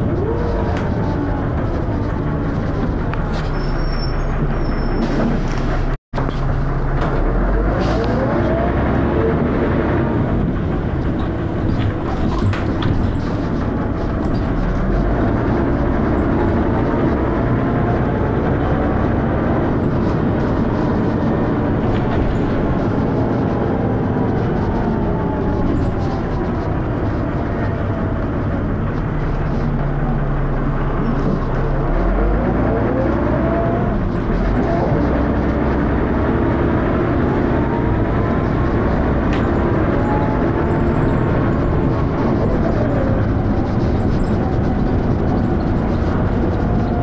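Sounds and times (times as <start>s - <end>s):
bus engine running hard: 0.0s - 47.0s.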